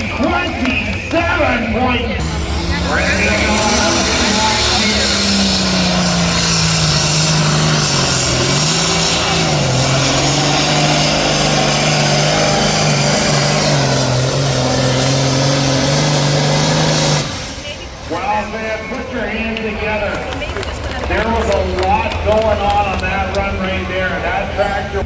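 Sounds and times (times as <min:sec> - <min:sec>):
tractor engine running under load: 0:00.0 - 0:25.0.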